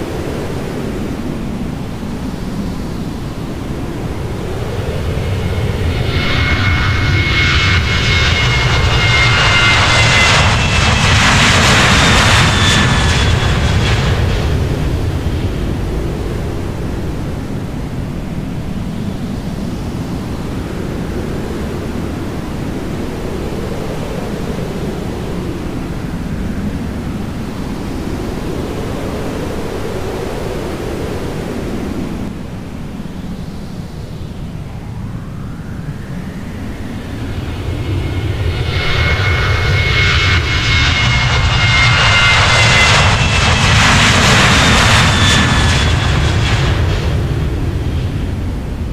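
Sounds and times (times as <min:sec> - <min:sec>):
airliner engines passing: 0:00.0 - 0:48.9.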